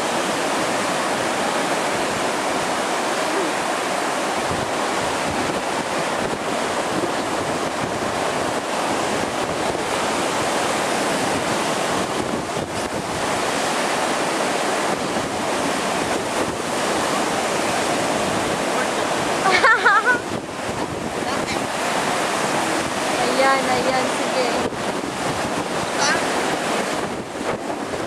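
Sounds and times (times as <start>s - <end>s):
surf crashing ashore: 0.0s - 28.0s
wind buffeting microphone: 0.0s - 28.0s.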